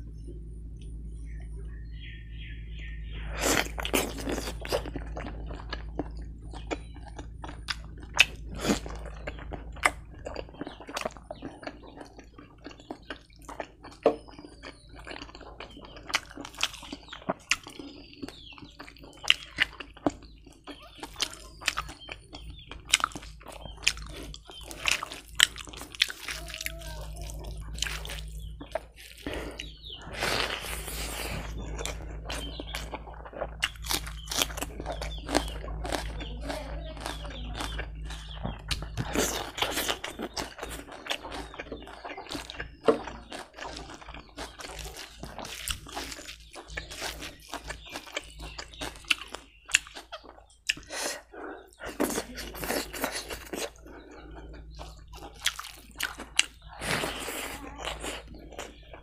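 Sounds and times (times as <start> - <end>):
wet chewing mouth clicks: 3.3 - 36.3, 37.0 - 59.0.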